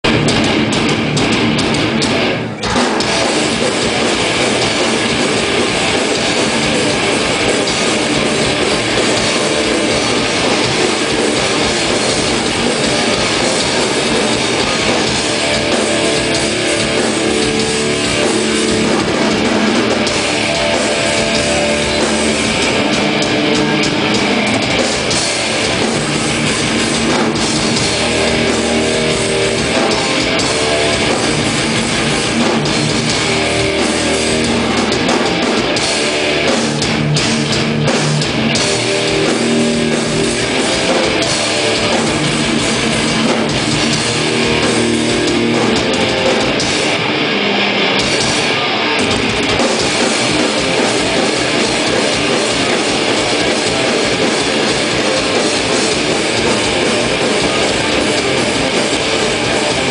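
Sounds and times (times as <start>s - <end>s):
distorted electric guitars: 0.0s - 59.9s
pounding drum kit with cymbals: 0.0s - 59.9s.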